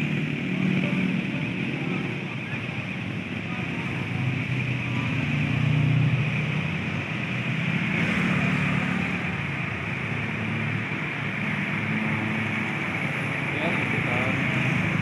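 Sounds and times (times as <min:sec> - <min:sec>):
diesel engine hum: 0:00.0 - 0:15.0
road traffic hiss: 0:00.0 - 0:15.0.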